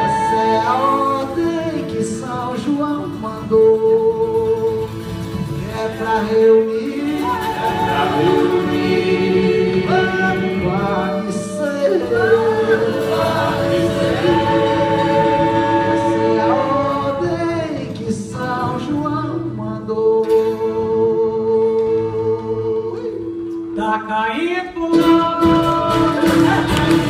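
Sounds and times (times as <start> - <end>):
group singing folk song: 0.0 - 27.0.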